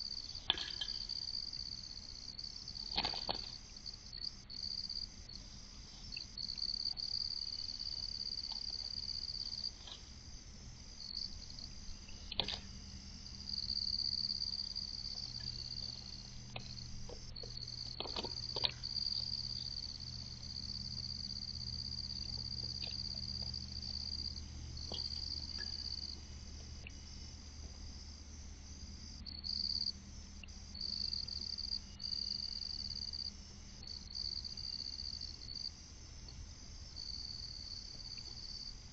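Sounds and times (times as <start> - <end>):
low steady hum: 0.0 - 38.9
night insects trilling: 0.0 - 38.9.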